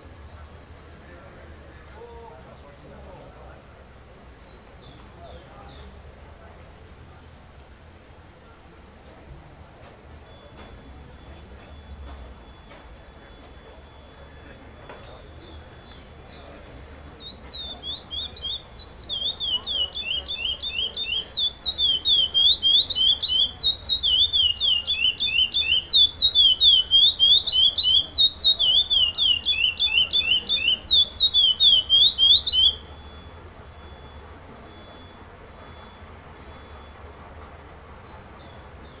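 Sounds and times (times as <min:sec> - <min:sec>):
finch singing whistled notes: 0:03.1 - 0:07.0, 0:10.3 - 0:39.0.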